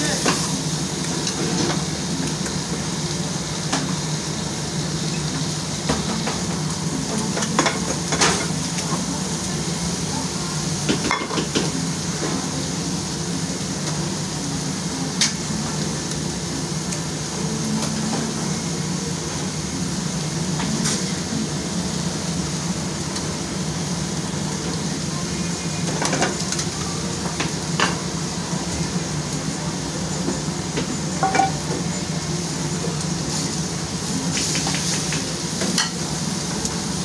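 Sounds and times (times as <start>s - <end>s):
food frying: 0.0s - 37.0s.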